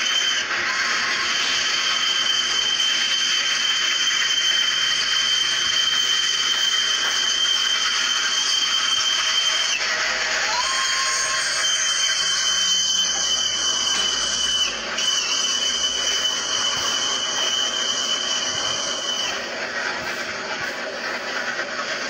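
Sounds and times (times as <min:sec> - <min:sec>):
train rushing past: 0:00.0 - 0:22.0.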